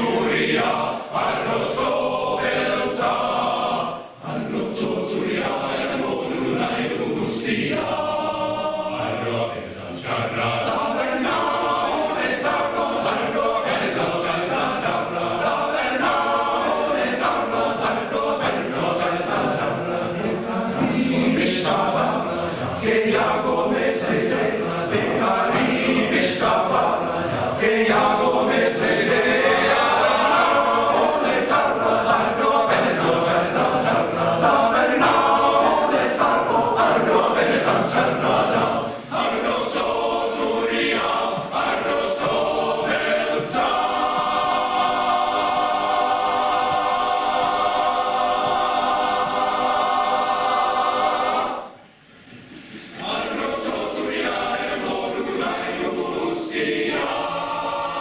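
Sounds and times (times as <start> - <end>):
male chorus singing: 0.0 - 58.0.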